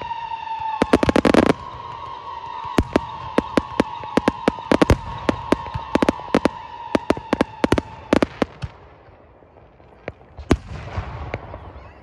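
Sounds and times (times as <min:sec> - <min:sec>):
fireworks bangs: 0:00.0 - 0:12.0
fireworks crackling pops: 0:00.0 - 0:12.0.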